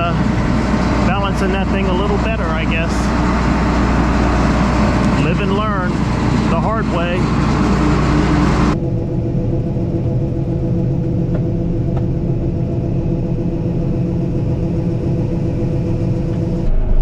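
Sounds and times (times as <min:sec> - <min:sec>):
farm machine engine running: 0:00.0 - 0:17.0.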